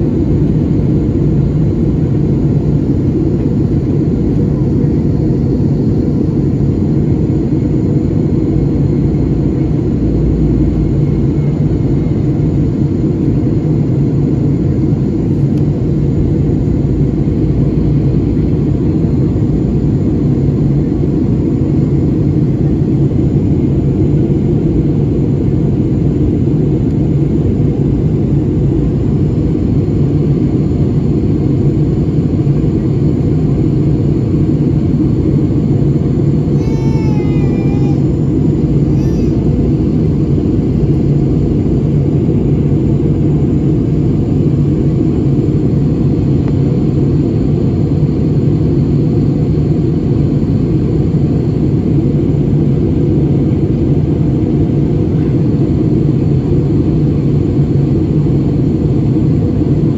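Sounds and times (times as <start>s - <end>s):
airliner cabin jet engine drone: 0.0s - 59.9s.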